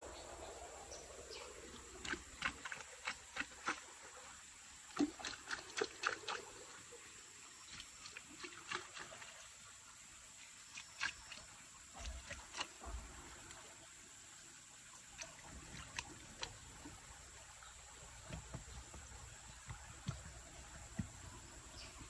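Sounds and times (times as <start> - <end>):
faint steady hiss: 0.0 - 5.2, 6.1 - 22.0.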